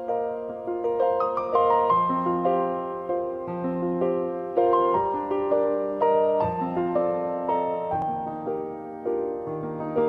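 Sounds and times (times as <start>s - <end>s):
slow piano melody: 0.0s - 10.0s.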